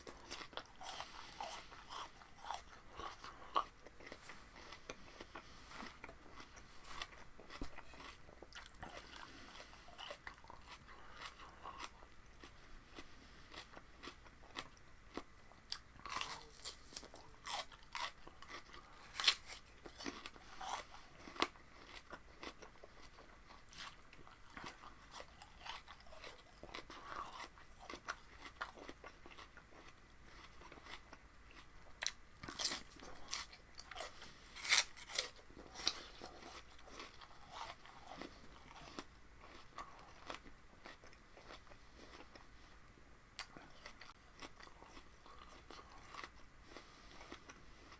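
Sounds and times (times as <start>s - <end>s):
chewing crunchy raw vegetables: 0.0s - 47.9s.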